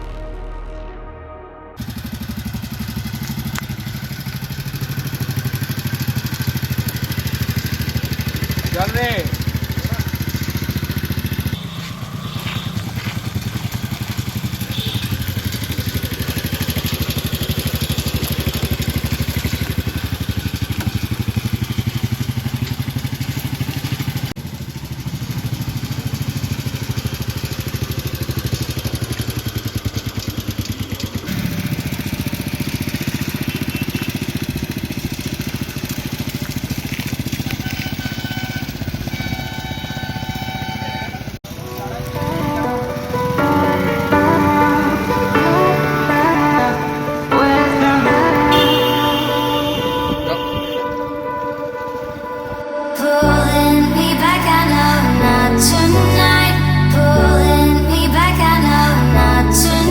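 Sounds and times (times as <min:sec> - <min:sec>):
motorcycle engine running: 0:01.8 - 0:52.5.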